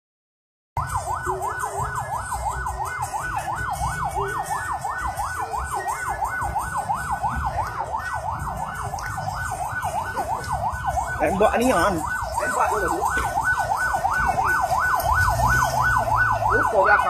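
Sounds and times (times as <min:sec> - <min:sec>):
emergency siren yelping: 0:00.8 - 0:17.0.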